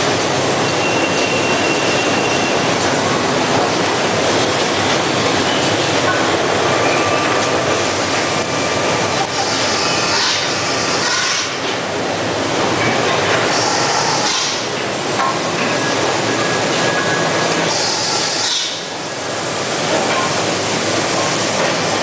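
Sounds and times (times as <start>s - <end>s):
conveyors and machines running: 0.0s - 22.0s.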